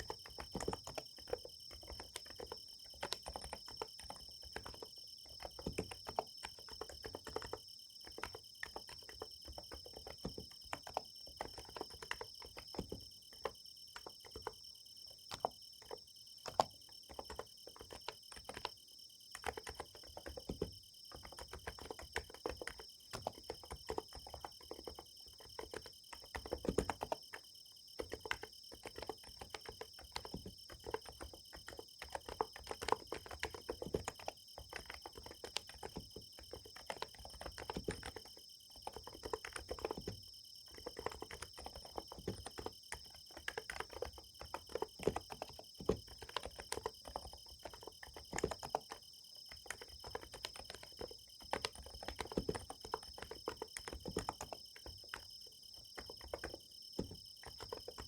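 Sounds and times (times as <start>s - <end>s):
fast keyboard typing: 0.0s - 58.0s
night insects chirring: 0.0s - 58.0s.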